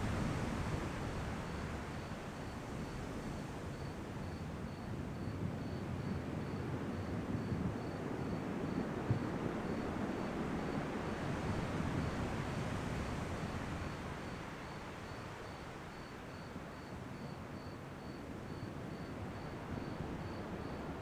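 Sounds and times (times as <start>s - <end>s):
cricket chirping: 0.1s - 21.0s.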